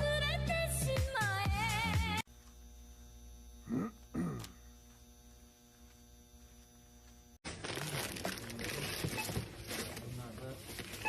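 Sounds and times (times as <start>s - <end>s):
electrical mains hum: 1.6s - 11.0s.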